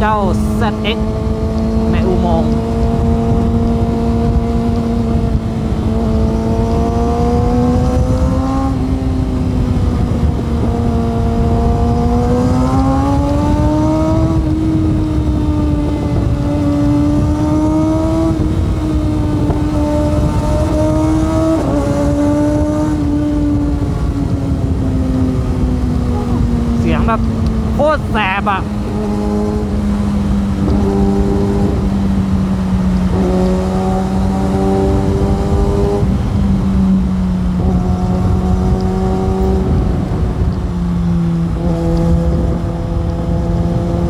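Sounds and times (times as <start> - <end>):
rushing wind and road noise: 0.0 - 44.0
motorcycle engine revving: 0.7 - 27.7, 28.6 - 44.0.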